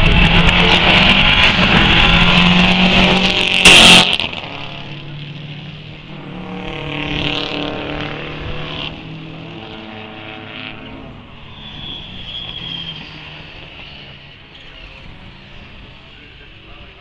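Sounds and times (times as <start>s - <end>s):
rally car engine passing: 0.0s - 17.0s
second car engine: 0.0s - 17.0s.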